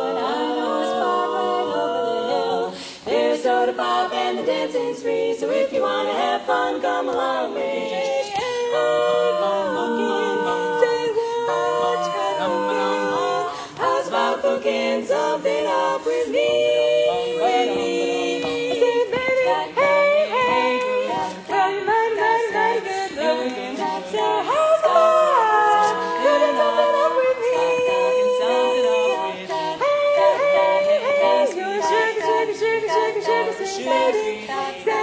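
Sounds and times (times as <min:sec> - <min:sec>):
women singing a cappella harmony: 0:00.0 - 0:35.0.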